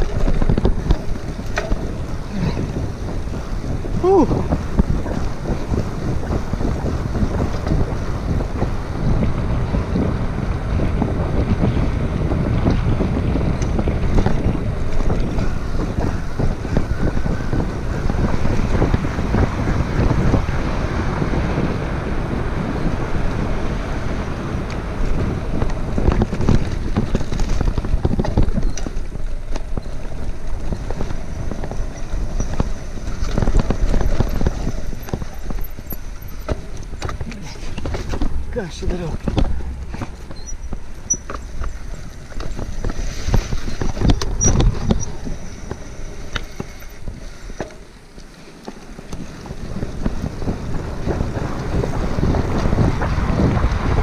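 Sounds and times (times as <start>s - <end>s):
bicycle knocks and rattles: 0.0s - 21.8s, 23.0s - 54.0s
bicycle tyres rolling on wet pavement: 0.0s - 54.0s
wind buffeting microphone: 0.0s - 54.0s.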